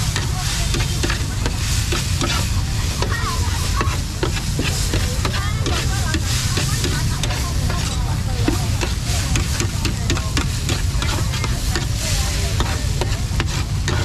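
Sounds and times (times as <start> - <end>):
food sizzling in a pan: 0.0 - 14.0
metal utensil scraping pan: 0.0 - 14.0.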